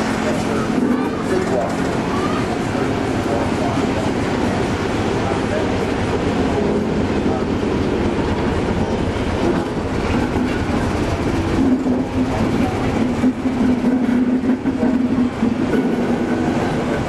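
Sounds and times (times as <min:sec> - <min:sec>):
locomotive engine drone: 0:00.0 - 0:17.0
train wheels clattering on rails: 0:00.0 - 0:17.0.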